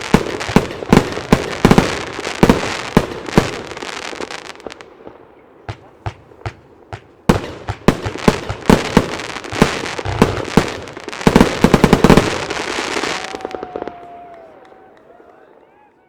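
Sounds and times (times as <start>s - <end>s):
fireworks launches and bursts: 0.0s - 14.4s.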